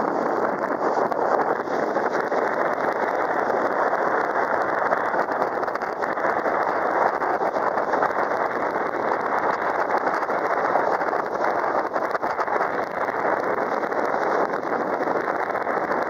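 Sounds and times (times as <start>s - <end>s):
boat rushing through water: 0.0s - 16.0s.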